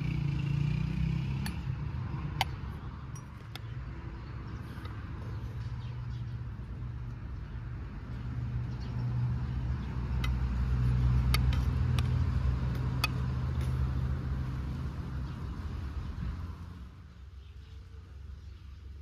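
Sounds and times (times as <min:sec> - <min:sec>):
vehicle engine passing: 0:00.0 - 0:17.1.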